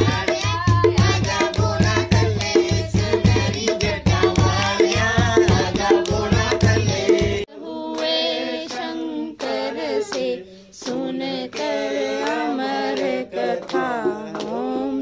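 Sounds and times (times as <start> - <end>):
hand-clapping: 0.0 - 14.9
child singing: 0.0 - 15.0
rhythmic percussion: 0.0 - 15.0
voices singing unaccompanied: 0.0 - 15.0.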